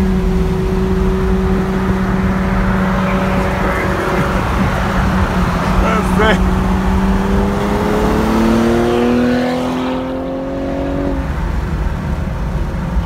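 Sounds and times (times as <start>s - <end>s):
car accelerating: 0.0s - 13.0s
road and wind noise: 0.0s - 13.0s.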